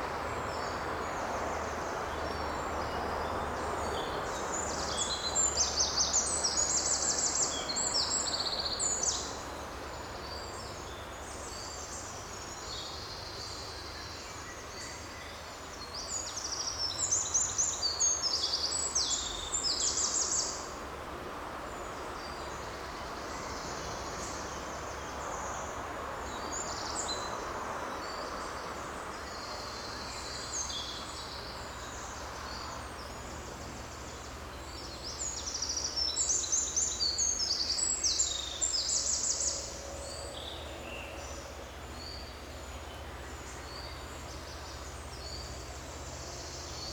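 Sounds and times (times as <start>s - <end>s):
forest background rush: 0.0s - 46.9s.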